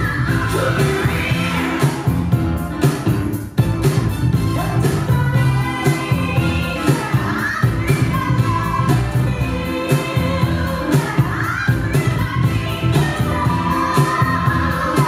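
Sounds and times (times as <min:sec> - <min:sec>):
dance music with singing: 0:00.0 - 0:15.0.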